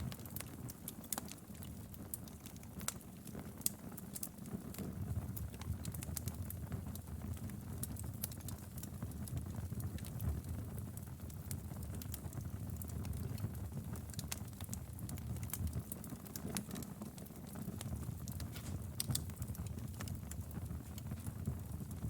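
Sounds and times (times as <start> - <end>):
firewood crackling: 0.0 - 22.0.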